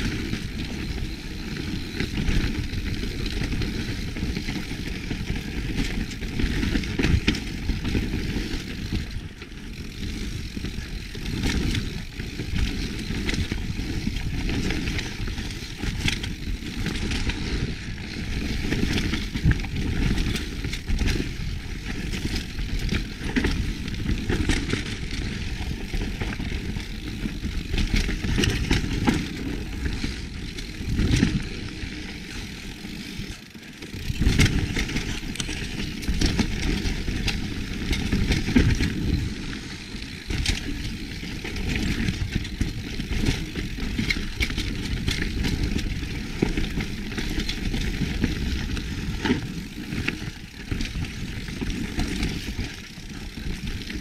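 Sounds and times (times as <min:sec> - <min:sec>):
bike chain and frame rattling: 0:00.0 - 0:54.0
bike tyres rushing over dirt: 0:00.0 - 0:54.0
loud bike clatter: 0:00.0 - 0:54.0.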